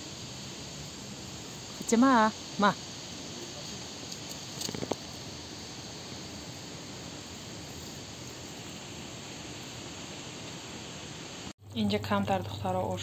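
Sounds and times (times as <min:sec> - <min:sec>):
outdoor ambience hiss: 0:00.0 - 0:13.0.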